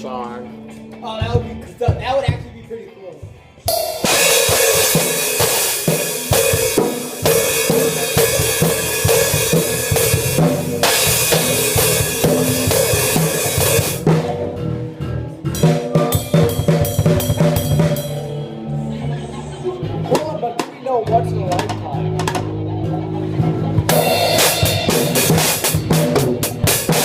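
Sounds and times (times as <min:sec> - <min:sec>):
rock drum kit: 0:00.0 - 0:18.8, 0:19.9 - 0:27.0
amplified instruments: 0:00.0 - 0:27.0.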